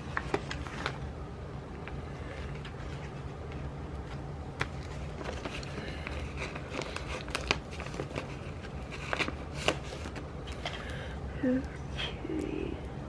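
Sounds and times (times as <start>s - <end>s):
paper crinkling: 0.0s - 11.1s
steady low hum: 0.0s - 13.0s.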